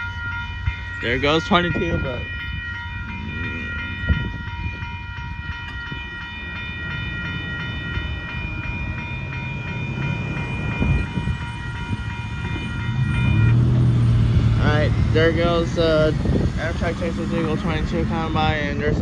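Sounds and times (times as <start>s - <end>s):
crossing warning bell ringing: 0.0s - 19.0s
passenger train rumbling past: 0.0s - 19.0s.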